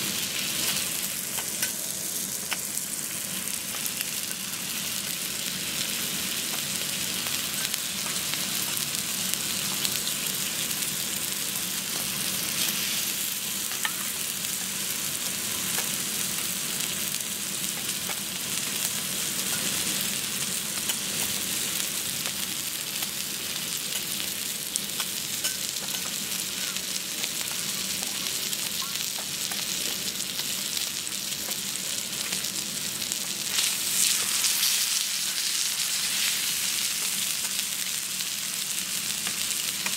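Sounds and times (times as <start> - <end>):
steak sizzling on a griddle: 0.0 - 39.9.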